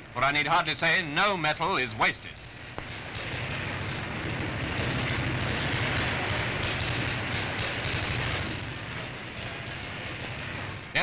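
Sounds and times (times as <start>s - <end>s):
machine tool low hum: 0.0s - 11.0s.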